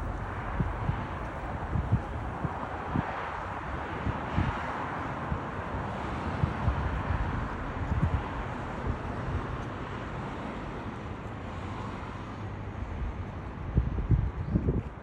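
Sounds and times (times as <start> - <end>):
wind buffeting microphone: 0.0 - 10.8, 12.9 - 15.0.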